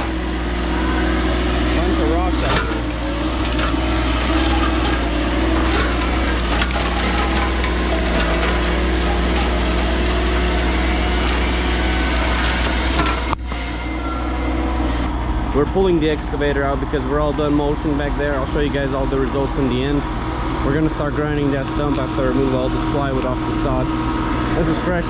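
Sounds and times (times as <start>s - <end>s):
brush cutter grinding wood: 0.0s - 15.1s, 18.0s - 25.0s
excavator engine hum: 0.0s - 25.0s.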